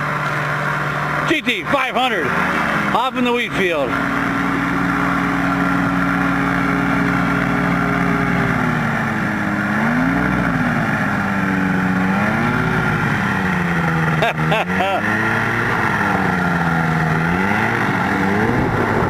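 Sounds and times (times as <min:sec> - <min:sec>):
ultralight aircraft engine and propeller: 0:00.0 - 0:19.0.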